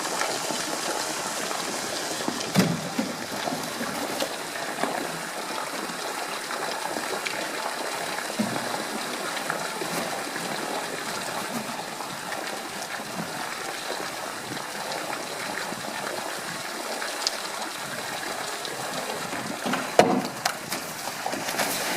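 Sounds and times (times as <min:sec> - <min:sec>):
running water rushing: 0:00.0 - 0:21.9.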